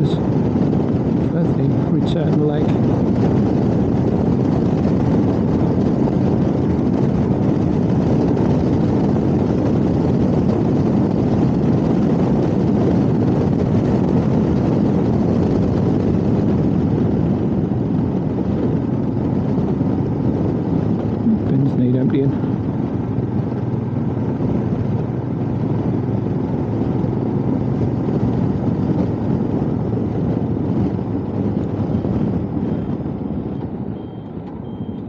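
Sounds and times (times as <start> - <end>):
motorcycle engine: 0.0 - 34.6
wind rushing: 0.0 - 34.9.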